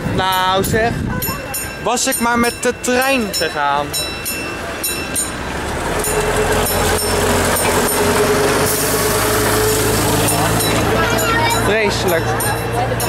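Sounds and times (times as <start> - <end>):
amusement park train passing: 0.0 - 13.0.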